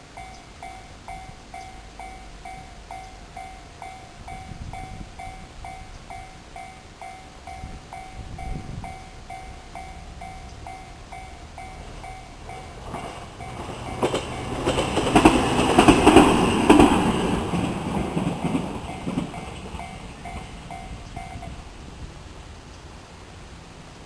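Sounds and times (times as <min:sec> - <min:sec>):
train wheels clattering: 0:00.0 - 0:21.8
level-crossing warning bell ringing: 0:00.0 - 0:22.0.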